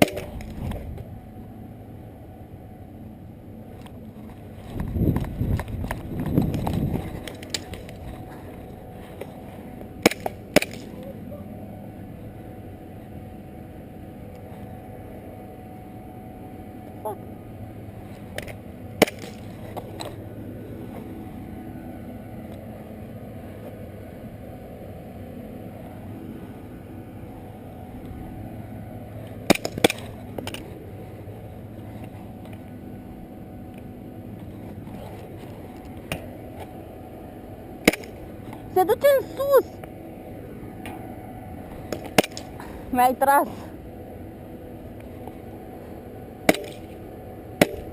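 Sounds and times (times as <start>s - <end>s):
steady background noise: 0.0s - 47.9s.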